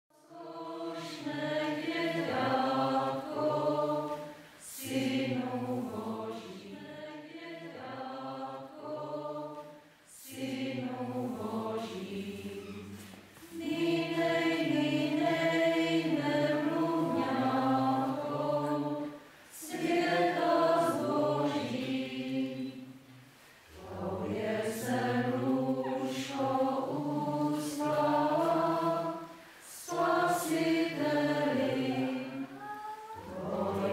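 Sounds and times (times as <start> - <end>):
group singing carols unaccompanied: 0.2 - 33.9.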